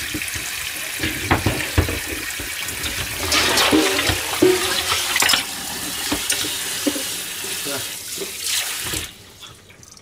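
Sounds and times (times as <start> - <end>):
water splashing on a pot: 0.0 - 10.0.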